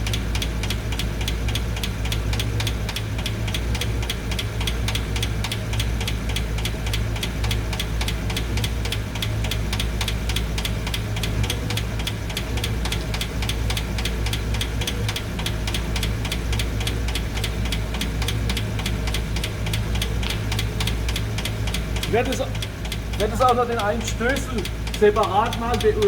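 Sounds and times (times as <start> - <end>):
engine idling: 0.0 - 26.0
valve train ticking: 0.0 - 26.0.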